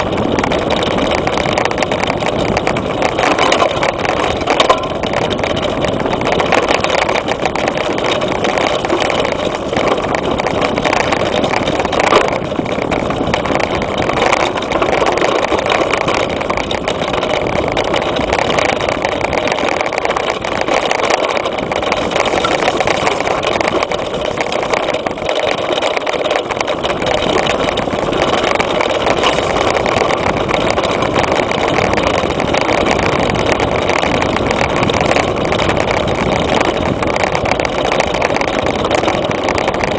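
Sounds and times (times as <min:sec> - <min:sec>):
bicycle rattle: 0:00.0 - 0:39.9
bike tyre noise on dirt: 0:00.0 - 0:39.9
wind rush: 0:00.0 - 0:39.9.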